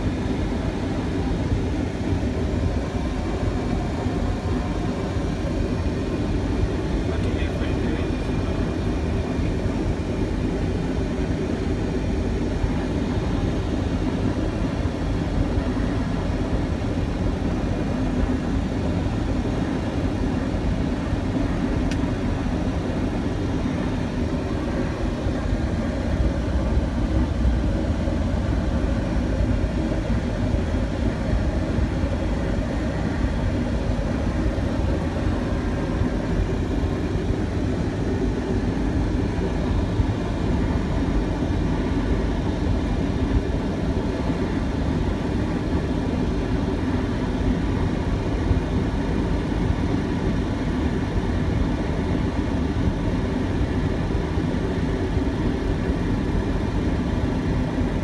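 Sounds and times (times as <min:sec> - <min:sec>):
aircraft cockpit drone: 0:00.0 - 0:58.0.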